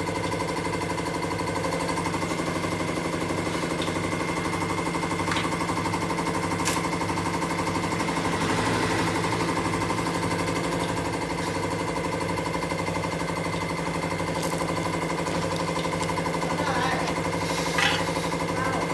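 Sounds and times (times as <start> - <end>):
engine running with fast pulsing: 0.0 - 18.9.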